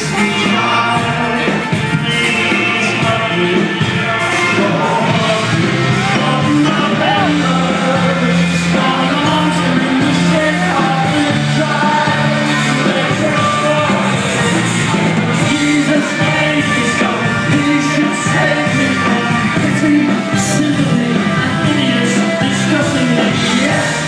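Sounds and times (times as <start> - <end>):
live rock band playing: 0.0 - 24.0
male lead singer: 0.0 - 24.0.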